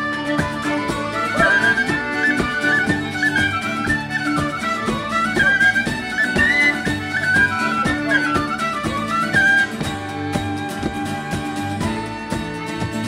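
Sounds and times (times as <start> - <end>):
folk band playing instrumental tune: 0.0 - 13.0.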